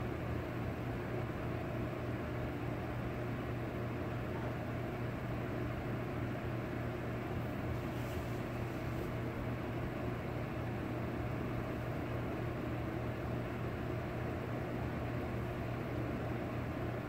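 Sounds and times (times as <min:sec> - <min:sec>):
fan hum with hiss: 0:00.0 - 0:17.0.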